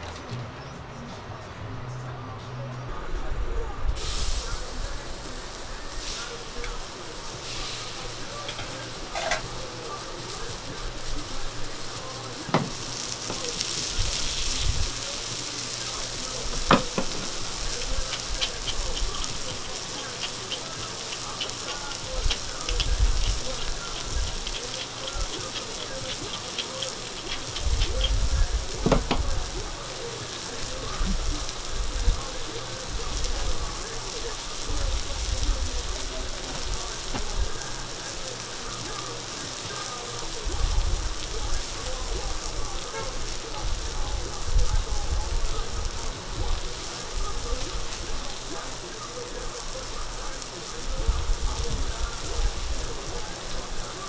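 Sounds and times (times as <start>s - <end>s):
steaks sizzling on griddle: 4.0s - 54.0s.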